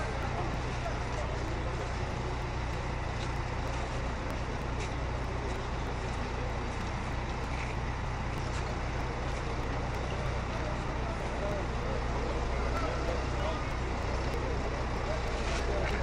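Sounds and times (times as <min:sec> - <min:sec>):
heavy engine rumbling: 0:00.0 - 0:16.0.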